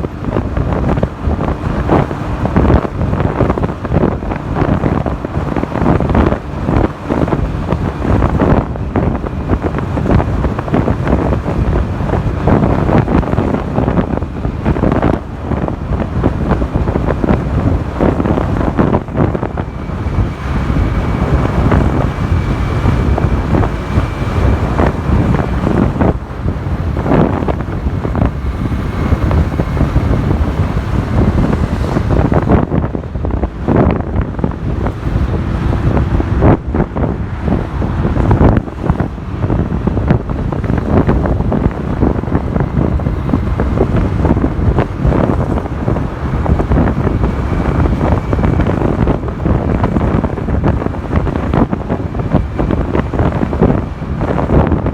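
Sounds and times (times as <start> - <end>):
motorcycle running: 0.0 - 54.9
wind buffeting microphone: 0.0 - 54.9.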